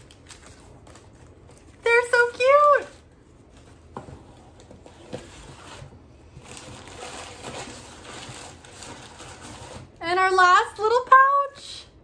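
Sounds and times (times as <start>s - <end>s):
newspaper rustling: 0.0s - 10.0s.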